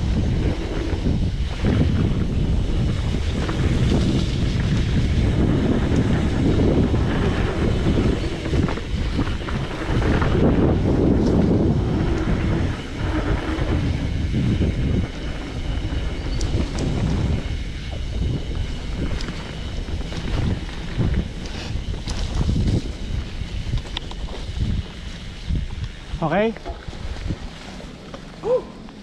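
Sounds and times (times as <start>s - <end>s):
bike rattling over rough trail: 0.0s - 29.0s
wind buffeting microphone: 0.0s - 29.0s.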